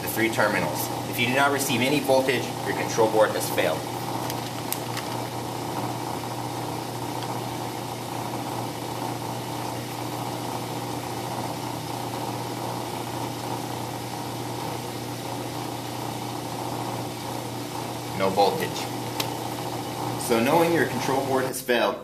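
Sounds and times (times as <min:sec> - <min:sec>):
machine hum: 0:00.0 - 0:21.6.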